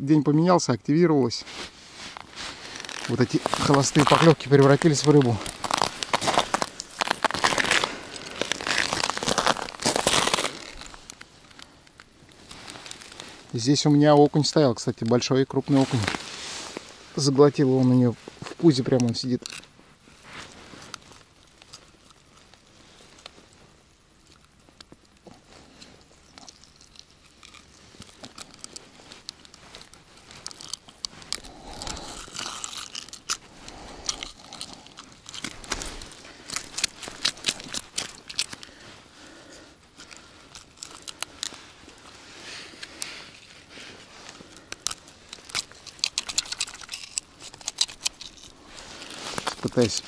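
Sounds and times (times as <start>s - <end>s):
rustling and crinkling: 1.2s - 50.0s.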